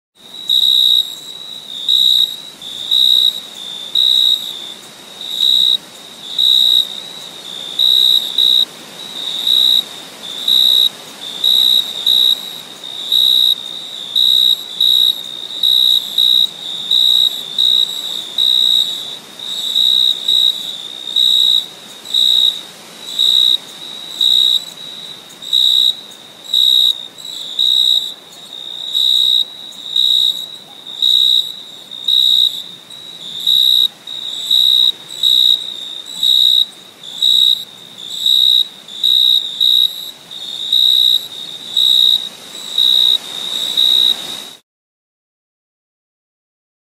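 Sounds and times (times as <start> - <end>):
cricket chirping: 0.2 - 44.6
faint hiss: 0.2 - 44.6.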